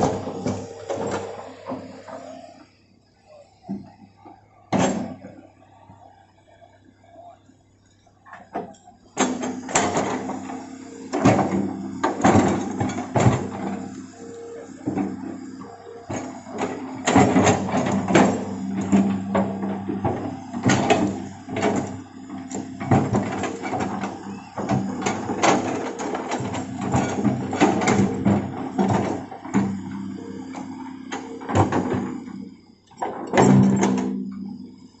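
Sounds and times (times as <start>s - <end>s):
excavator bucket clanking and scraping: 0.0s - 2.5s, 8.4s - 34.8s
excavator diesel engine running: 0.0s - 35.0s.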